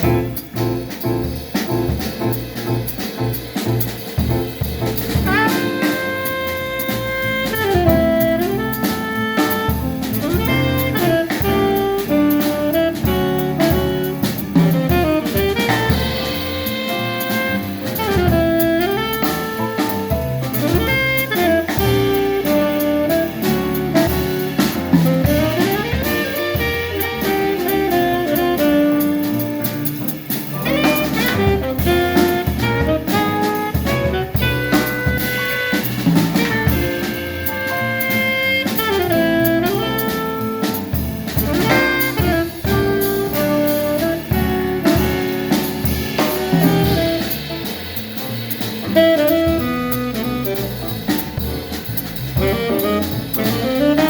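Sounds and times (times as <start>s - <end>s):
steady drum beat: 0.0s - 54.0s.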